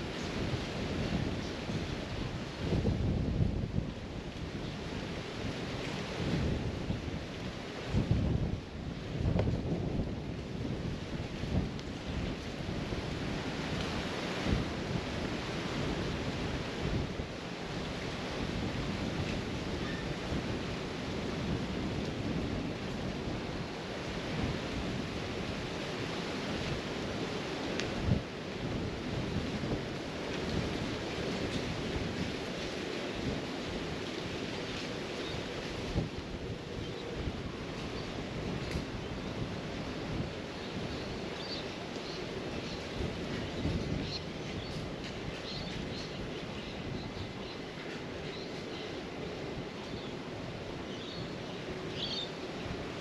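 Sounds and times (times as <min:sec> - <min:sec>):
outdoor background rumble and hiss: 0:00.0 - 0:53.0.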